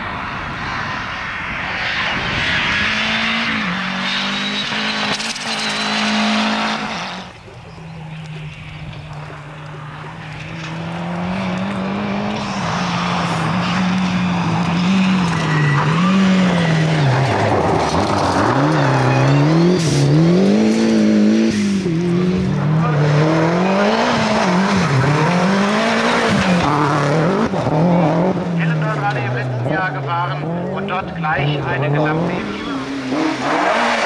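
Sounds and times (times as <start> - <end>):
rally car engines revving: 0.0 - 34.0.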